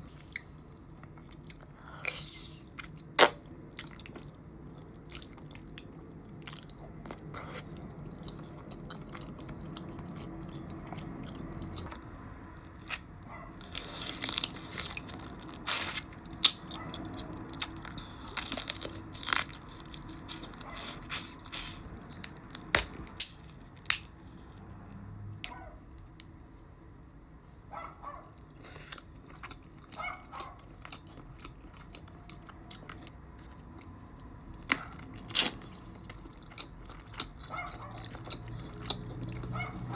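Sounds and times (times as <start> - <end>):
person chewing and biting: 0.2 - 24.6, 28.3 - 39.8.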